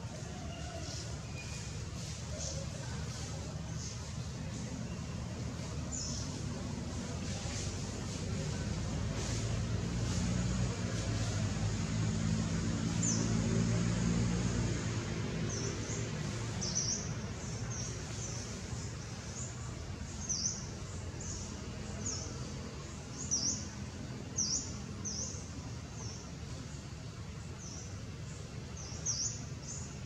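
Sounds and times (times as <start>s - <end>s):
low engine hum: 0.0s - 30.0s
outdoor background noise: 0.0s - 30.0s.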